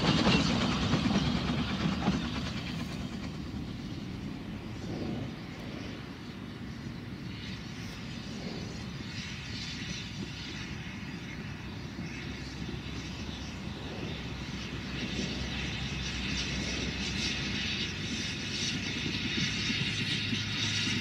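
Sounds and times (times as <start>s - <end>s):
steam train wheels rumbling: 0.0s - 21.0s.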